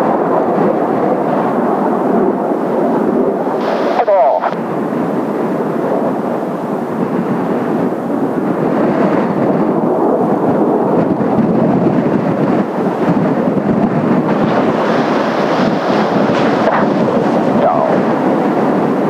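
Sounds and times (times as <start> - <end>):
jet planes roaring in flight: 0.0 - 19.0
wind buffeting microphone: 0.0 - 19.0.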